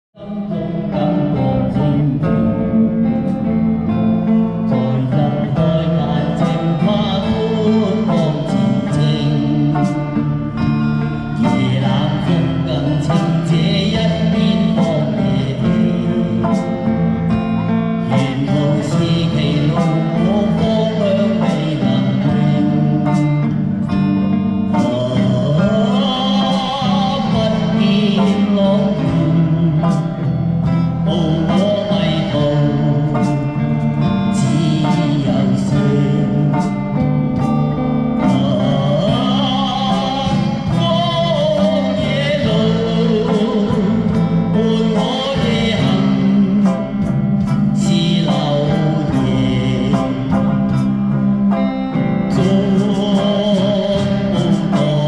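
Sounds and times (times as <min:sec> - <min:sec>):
song with singing voice: 0:00.1 - 0:55.0.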